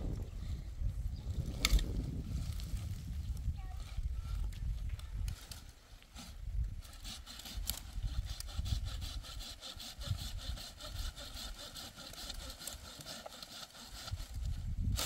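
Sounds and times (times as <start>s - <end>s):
sickle cutting dry stalks: 1.4s - 15.0s.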